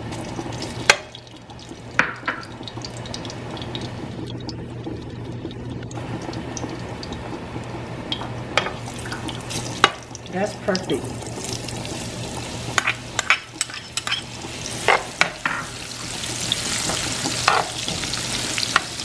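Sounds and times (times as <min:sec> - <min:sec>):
oil sizzling in a pan: 0:00.0 - 0:04.8, 0:06.0 - 0:19.0.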